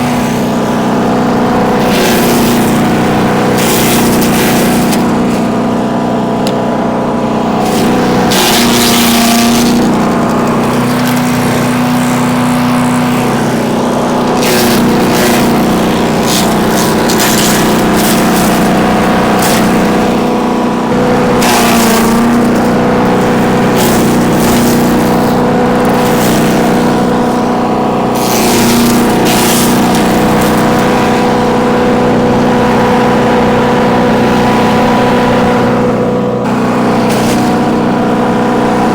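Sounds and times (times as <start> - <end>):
wood chipper engine running: 0.0 - 38.9
wood crackling and shredding: 0.0 - 38.9.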